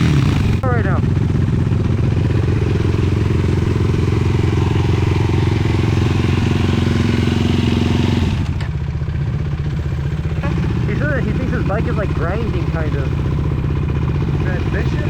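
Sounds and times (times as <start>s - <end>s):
quad engine running: 0.0s - 15.0s.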